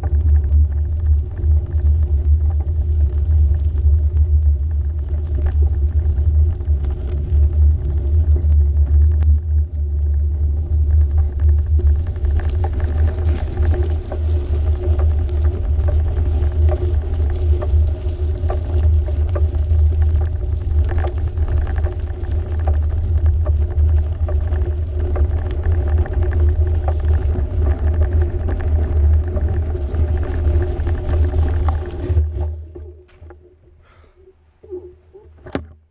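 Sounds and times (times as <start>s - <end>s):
bike rolling noise: 0.0s - 35.9s
faint steady hum: 0.0s - 35.9s.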